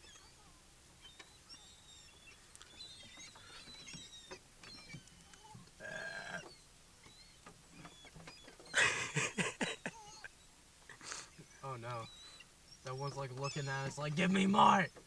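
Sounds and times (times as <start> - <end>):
seagulls calling: 0.0 - 10.5, 11.1 - 15.0.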